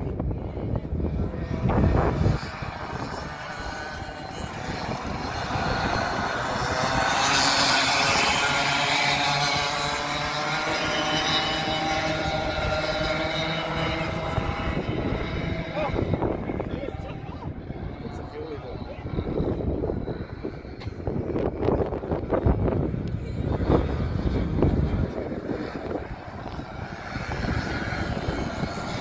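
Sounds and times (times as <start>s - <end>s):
kart engines buzzing: 0.0s - 29.0s
wind gust on microphone: 0.0s - 29.0s.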